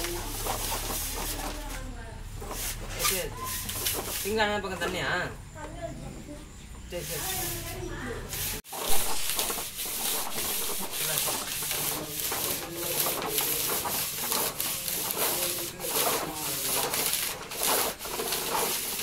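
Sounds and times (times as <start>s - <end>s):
wires scraping through plastic conduit: 0.0s - 5.0s, 6.9s - 19.0s.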